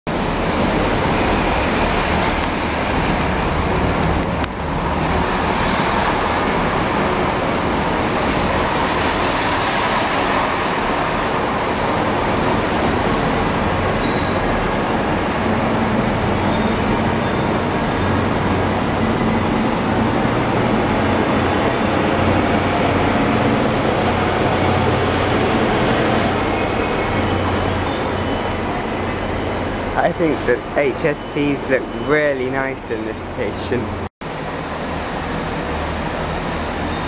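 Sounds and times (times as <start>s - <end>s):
passenger train running past: 0.1s - 37.0s.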